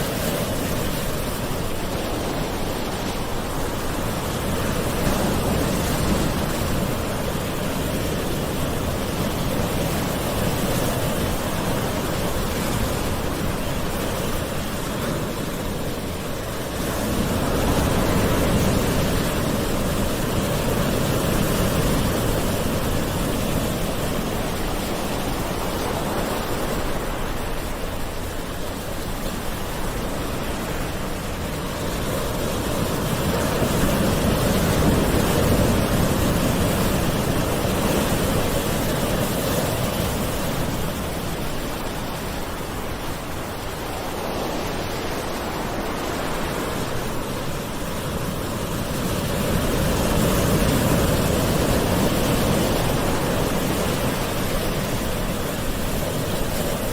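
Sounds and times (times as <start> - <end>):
ocean waves washing ashore: 0.0 - 56.9.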